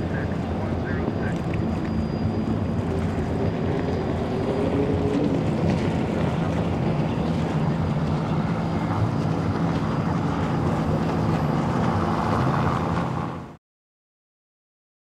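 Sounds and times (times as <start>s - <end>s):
watercraft engine running: 0.0s - 13.6s.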